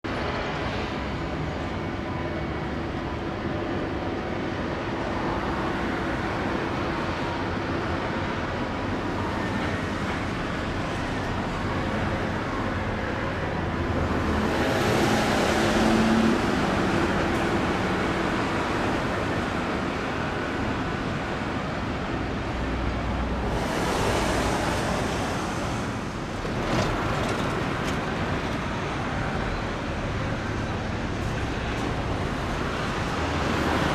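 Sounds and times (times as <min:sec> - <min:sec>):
road traffic noise: 0:00.0 - 0:33.9
vehicles passing: 0:04.9 - 0:33.9.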